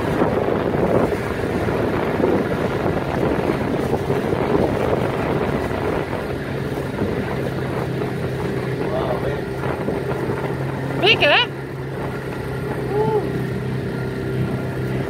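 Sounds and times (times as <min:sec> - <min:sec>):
churning water: 0:00.0 - 0:15.0
motorboat engine humming: 0:00.0 - 0:15.0
wind buffeting microphone: 0:00.0 - 0:15.0.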